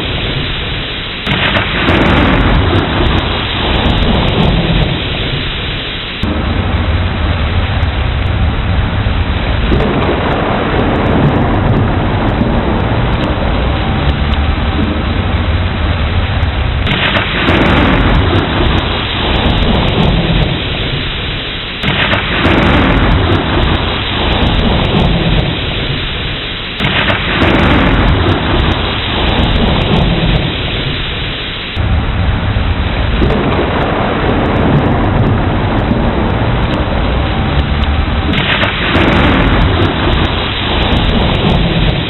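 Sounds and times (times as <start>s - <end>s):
heavy rain: 0.0s - 42.0s
rolling thunder: 0.0s - 42.0s.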